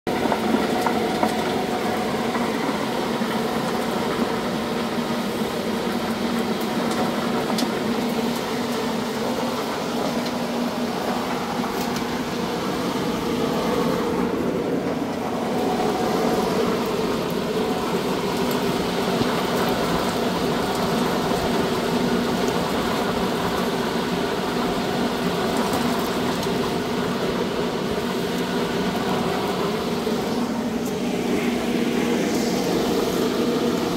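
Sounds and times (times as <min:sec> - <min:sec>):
fan and motor humming: 0:00.1 - 0:33.9.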